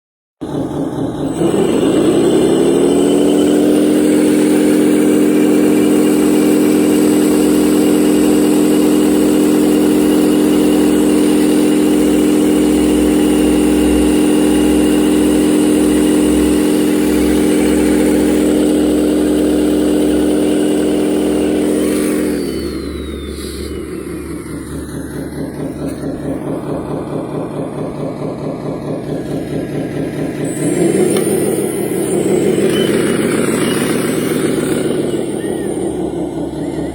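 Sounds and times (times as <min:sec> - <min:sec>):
model machine engine droning: 0:00.4 - 0:36.9.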